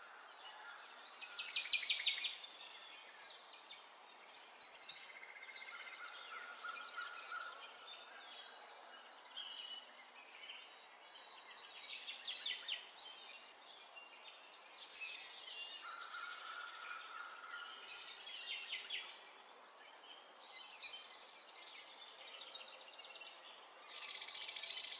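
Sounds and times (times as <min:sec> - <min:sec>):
birds chirping and trilling: 0:00.0 - 0:24.9.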